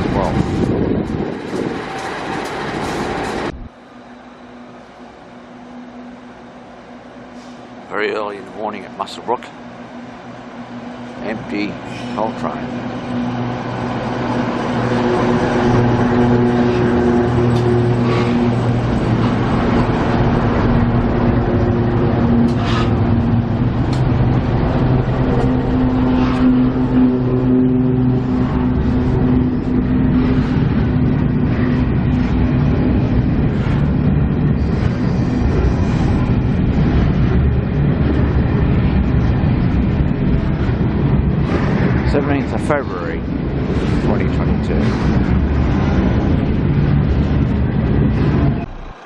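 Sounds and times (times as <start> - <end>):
diesel locomotive engines humming: 0.0 - 49.0.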